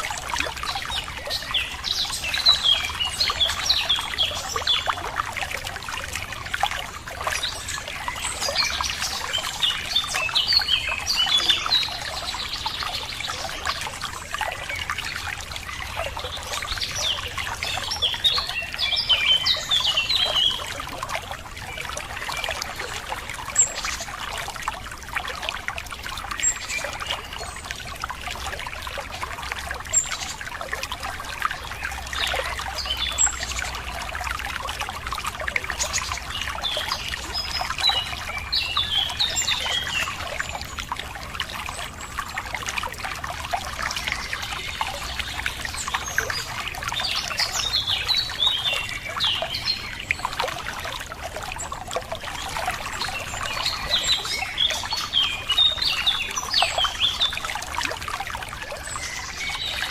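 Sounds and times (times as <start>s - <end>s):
songbirds chirping: 0.0s - 59.9s
water trickling and splashing: 0.0s - 59.9s.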